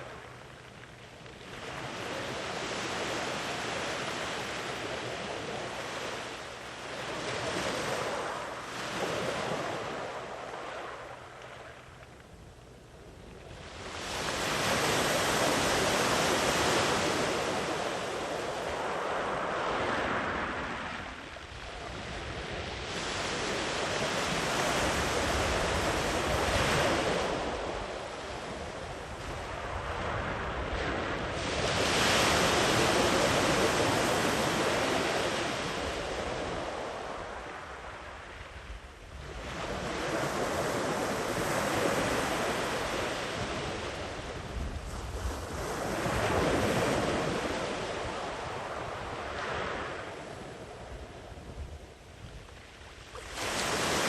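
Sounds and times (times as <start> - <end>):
wind rumble on microphone: 0.0 - 54.0
ocean waves breaking on beach: 1.3 - 11.8, 13.5 - 54.0.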